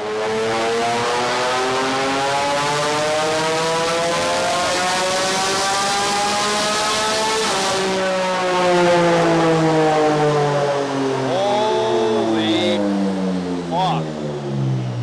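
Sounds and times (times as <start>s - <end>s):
car engine revving on dynamometer: 0.0s - 15.0s.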